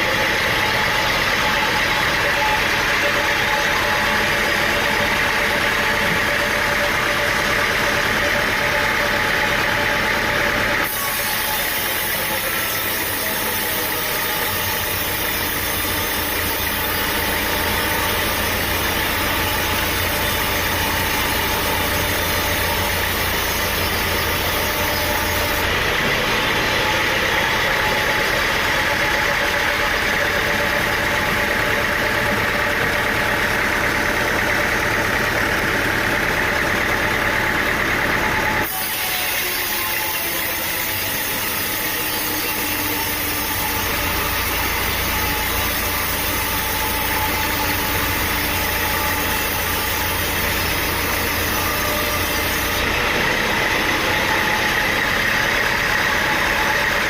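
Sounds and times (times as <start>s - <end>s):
higher brighter machine noise: 0.0s - 57.0s
sawmill machinery droning: 0.0s - 57.0s.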